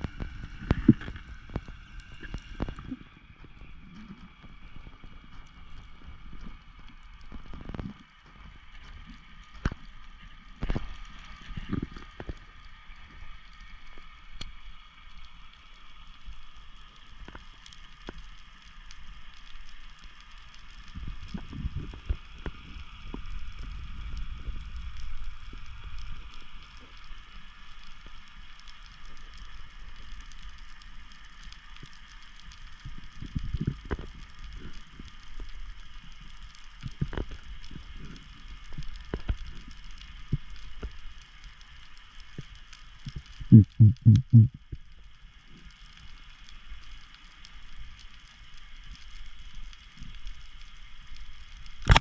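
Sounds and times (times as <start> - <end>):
low rumbling water movement: 0.0 - 52.0
underwater crackle of clicks: 0.0 - 52.0.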